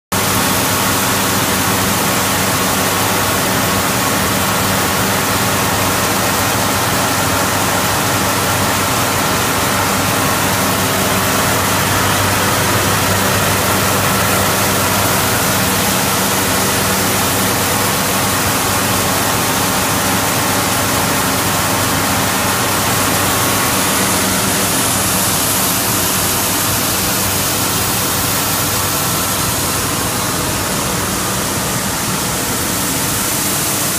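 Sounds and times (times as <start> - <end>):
machine hum: 0.2 - 33.9.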